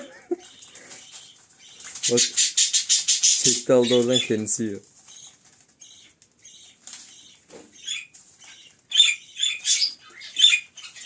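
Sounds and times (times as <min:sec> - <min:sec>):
budgerigars chirping: 0:00.4 - 0:11.0.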